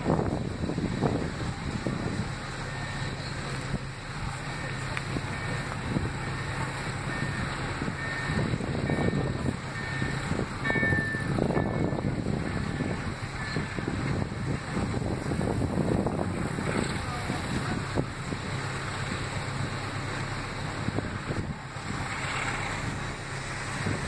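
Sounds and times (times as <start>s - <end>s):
train ride rumble: 0.0s - 24.0s
wheels clattering on track: 0.0s - 24.0s.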